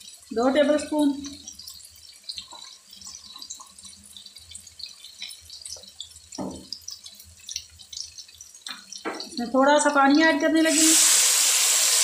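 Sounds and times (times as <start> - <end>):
masala sizzling in hot oil: 0.0 - 12.0.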